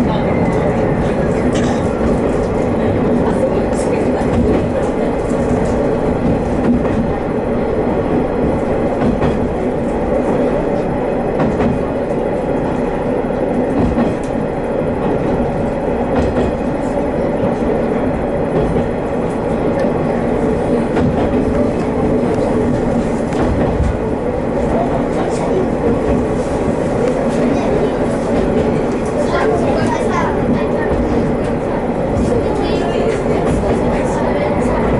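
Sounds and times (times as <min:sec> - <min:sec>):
railcar engine droning: 0:00.0 - 0:34.9.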